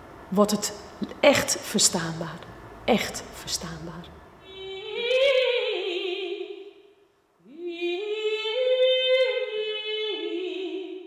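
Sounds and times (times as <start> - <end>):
soprano singing with vibrato: 0.4 - 11.0.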